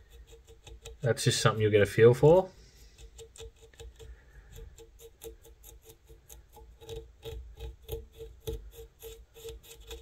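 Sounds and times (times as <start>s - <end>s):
brush raking through fibres: 0.0s - 10.0s.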